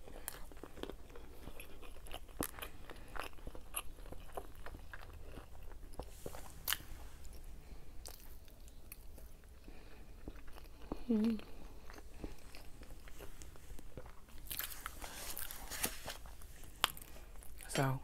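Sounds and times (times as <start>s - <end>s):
person chewing food: 0.0s - 17.8s.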